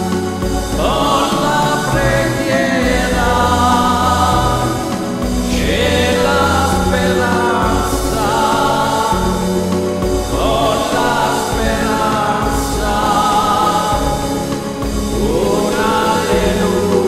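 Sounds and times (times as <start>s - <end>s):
choir-like backing chords: 0.0s - 17.0s
man singing into microphone: 0.0s - 17.0s
steady bass line: 0.0s - 17.0s.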